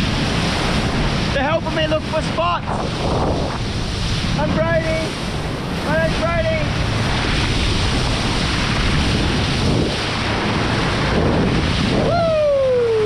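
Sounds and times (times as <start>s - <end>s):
rushing sea water: 0.0s - 13.0s
wind buffeting microphone: 0.0s - 13.0s.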